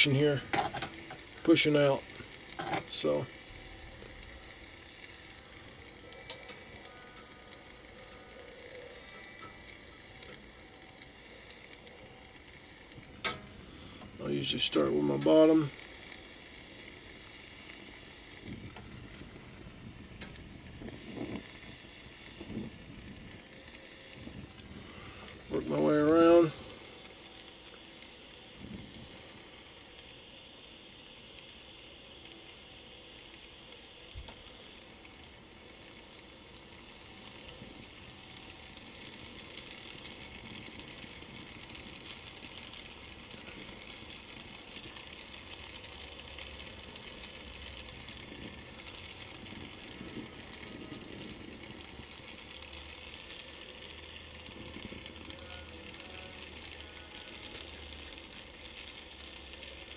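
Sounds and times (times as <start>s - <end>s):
torch flame burning: 0.0s - 59.9s.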